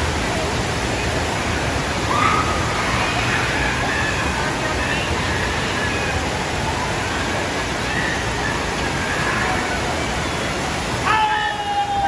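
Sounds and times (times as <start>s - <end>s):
faint voices: 0.0s - 12.0s
rushing water: 0.0s - 12.0s.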